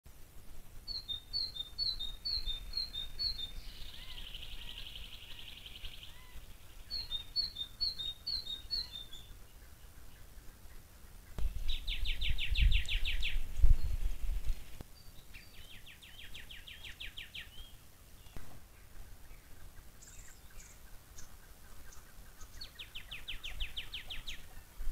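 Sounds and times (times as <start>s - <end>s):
bird chirps and trills: 0.9s - 24.8s.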